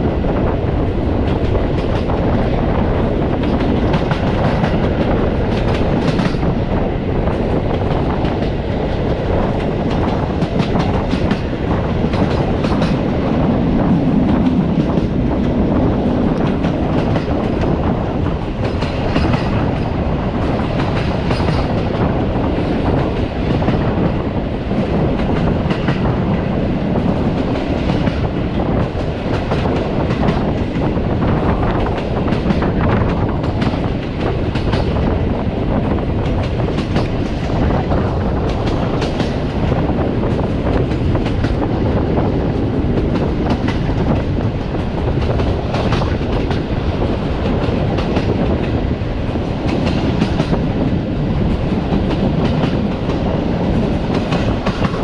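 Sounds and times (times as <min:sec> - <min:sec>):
clickety-clack over rail joints: 0:00.0 - 0:55.0
train wheels rumbling: 0:00.0 - 0:55.0.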